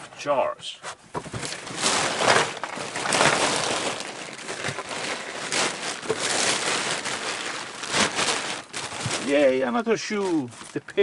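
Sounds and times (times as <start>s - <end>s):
plastic bags and paper rustling: 0.8s - 11.0s.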